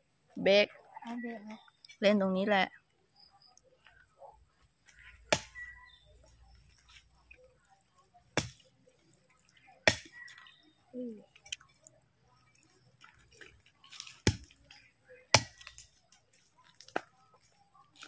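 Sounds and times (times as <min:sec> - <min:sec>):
faint chewing: 0:02.8 - 0:18.0.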